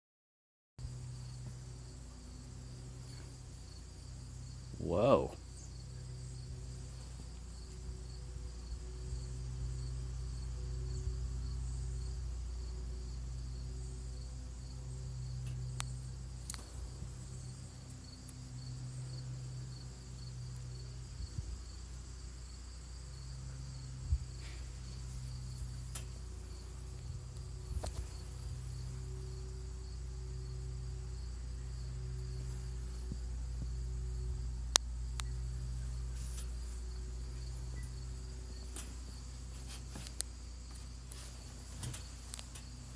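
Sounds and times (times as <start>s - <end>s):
insects chirping: 0.8s - 42.9s.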